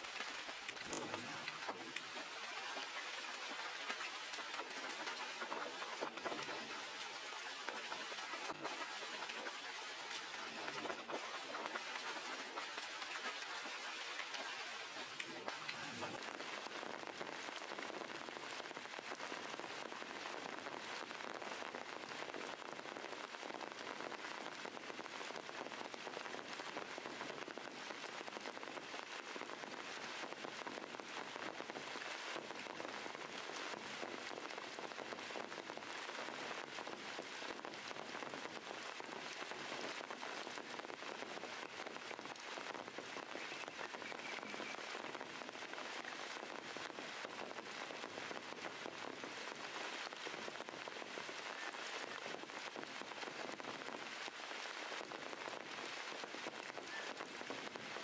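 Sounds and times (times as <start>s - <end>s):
rain falling on stones and leaves: 0.0s - 58.0s.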